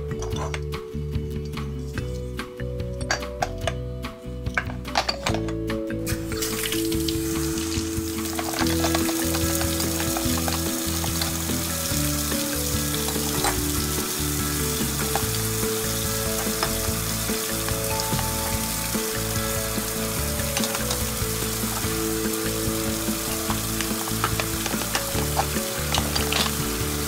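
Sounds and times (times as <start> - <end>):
background music with held notes: 0.0 - 27.0.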